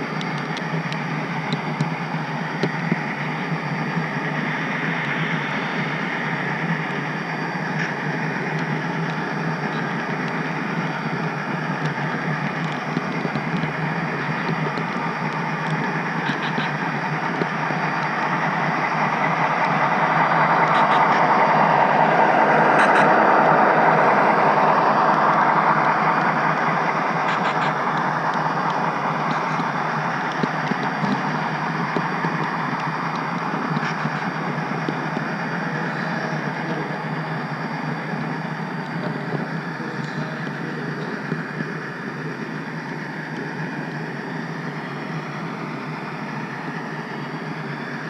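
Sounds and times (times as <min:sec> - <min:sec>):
model train wheels rumbling: 0:00.0 - 0:48.0.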